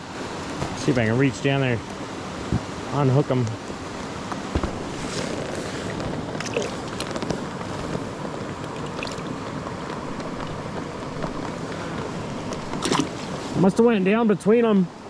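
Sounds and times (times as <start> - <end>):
creek running over its bed: 0.0 - 15.0.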